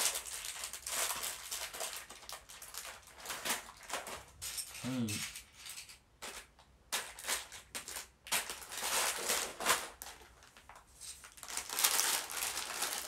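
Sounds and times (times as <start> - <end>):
plastic bag crinkling: 0.0 - 5.5, 6.2 - 13.0.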